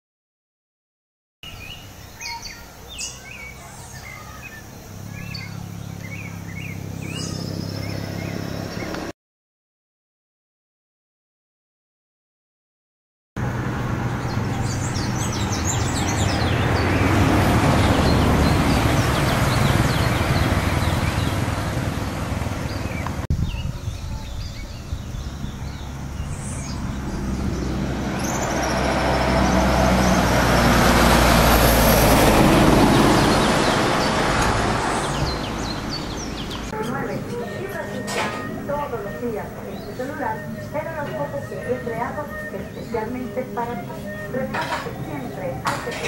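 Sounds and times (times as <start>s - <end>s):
faint birds chirping: 1.4s - 9.1s, 14.0s - 46.0s
vehicles passing: 1.4s - 9.1s, 13.4s - 46.0s.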